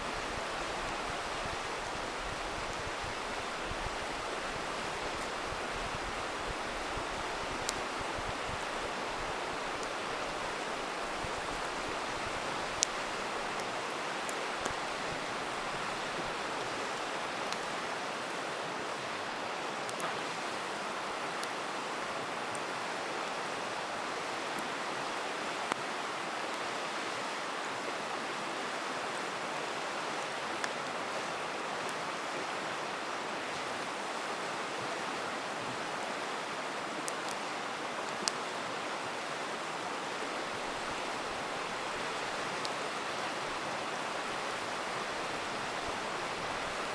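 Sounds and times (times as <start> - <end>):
campfire crackling: 0.0 - 26.9, 28.3 - 46.9
river rushing: 0.0 - 46.9.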